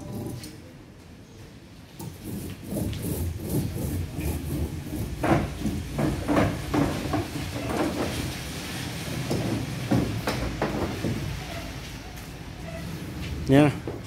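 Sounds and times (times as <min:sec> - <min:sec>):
roller scraping wet fibreglass: 0:00.0 - 0:00.7, 0:01.9 - 0:14.0.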